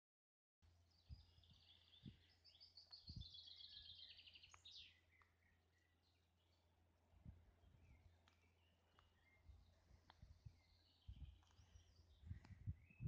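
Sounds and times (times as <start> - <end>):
bird chirping: 0.7 - 13.0.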